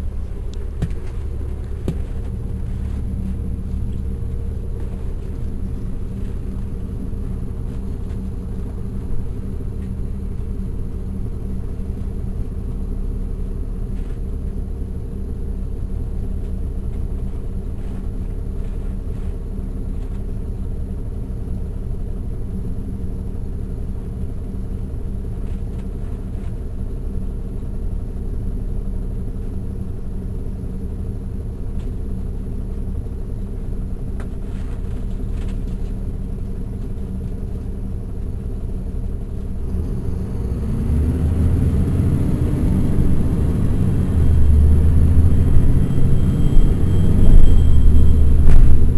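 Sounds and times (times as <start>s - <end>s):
bus diesel engine drone: 0.0s - 48.9s.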